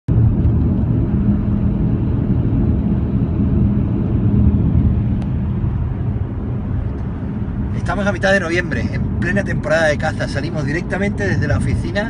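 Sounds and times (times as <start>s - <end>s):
road and engine rumble in car: 0.1s - 12.0s.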